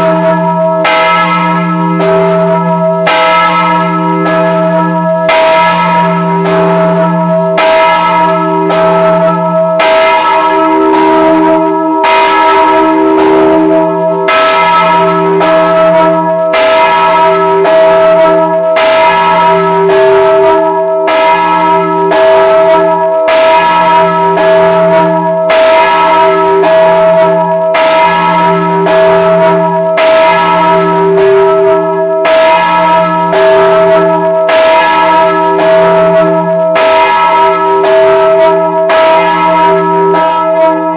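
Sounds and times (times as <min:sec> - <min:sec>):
church bell ringing: 0:00.0 - 0:40.9.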